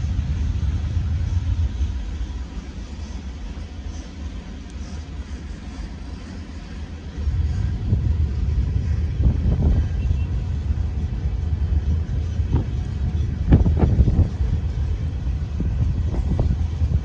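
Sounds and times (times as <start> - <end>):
train cars knocking: 0.0 - 17.0
train wheels rumbling on rails: 0.0 - 17.0.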